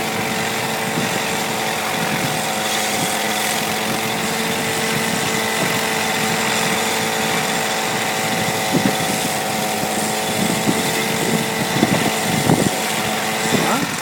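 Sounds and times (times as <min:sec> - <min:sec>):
helicopter engine and rotor drone: 0:00.0 - 0:14.0
strong wind hissing: 0:00.0 - 0:14.0.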